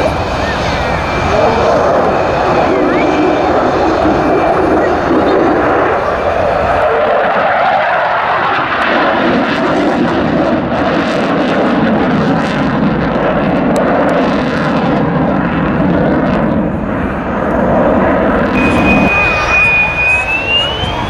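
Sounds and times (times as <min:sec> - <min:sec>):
fighter jet flying overhead: 0:00.0 - 0:21.0.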